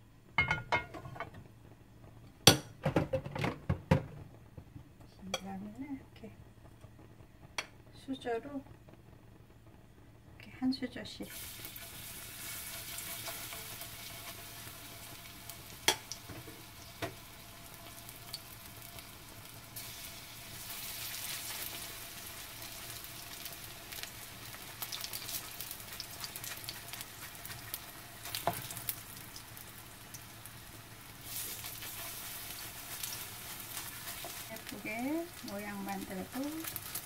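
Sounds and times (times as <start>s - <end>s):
batter sizzling in oil: 4.4s - 37.0s.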